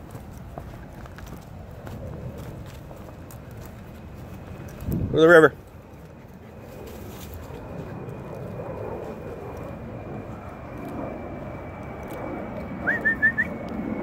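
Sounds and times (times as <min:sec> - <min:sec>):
airplane passing overhead: 0:00.0 - 0:14.0.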